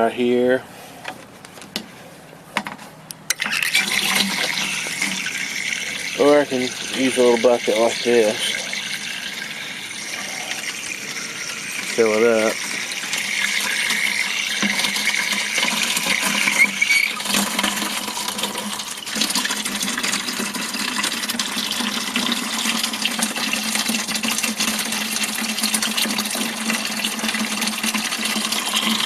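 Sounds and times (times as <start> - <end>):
water pouring into bucket: 3.3 - 29.0.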